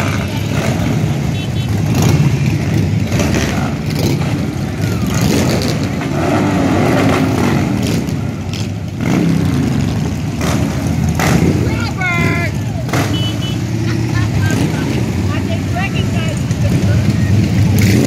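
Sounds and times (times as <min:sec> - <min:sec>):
motorcycle engine revving: 0:00.0 - 0:18.0
motorcycles riding past: 0:00.0 - 0:18.0.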